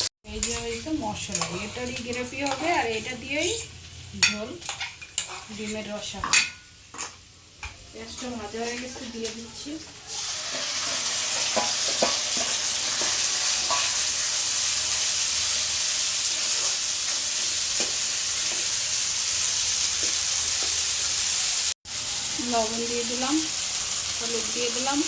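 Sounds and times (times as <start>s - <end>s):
masala sizzling in hot oil: 0.0s - 25.0s.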